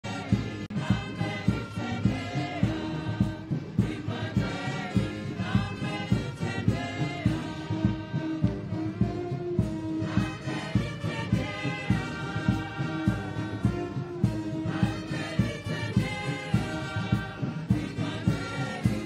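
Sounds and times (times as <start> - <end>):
choir singing: 0.0 - 19.0
steady drum beat: 0.0 - 19.0.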